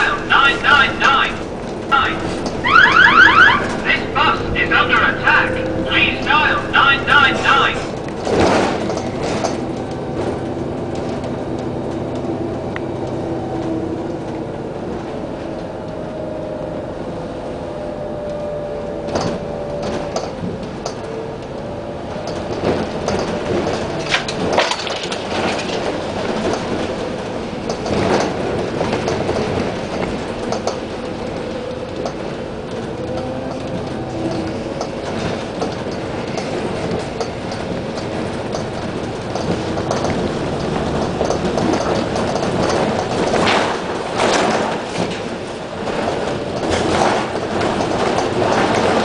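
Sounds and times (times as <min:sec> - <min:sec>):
bus body knocking and rattling: 0:00.0 - 0:17.3, 0:18.4 - 0:49.0
bus engine running: 0:00.0 - 0:49.0.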